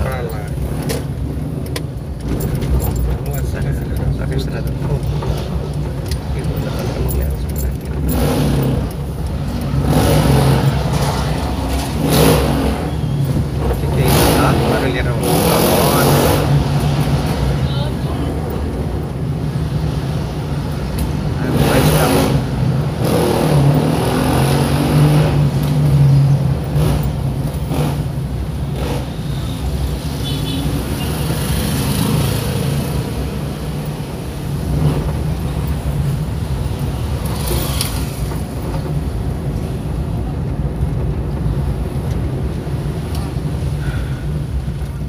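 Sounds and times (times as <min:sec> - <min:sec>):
car engine drone: 0:00.0 - 0:30.1, 0:30.8 - 0:45.0
tyre road noise hiss: 0:08.1 - 0:45.0.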